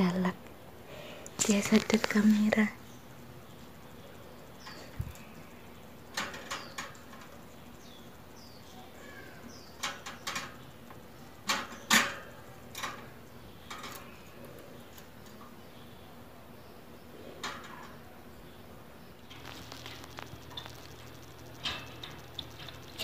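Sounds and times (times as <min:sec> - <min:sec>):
birds tapping and clicking: 0:01.2 - 0:02.7, 0:03.5 - 0:15.9, 0:17.2 - 0:18.1, 0:19.2 - 0:23.0.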